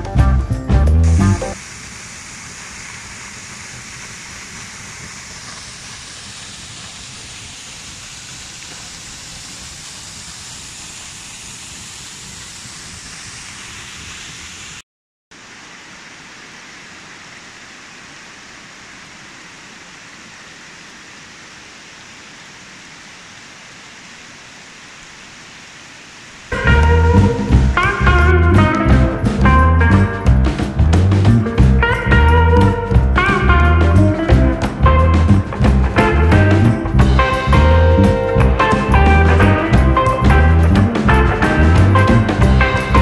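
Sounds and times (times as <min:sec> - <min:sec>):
waterfall rushing: 0:01.4 - 0:43.0.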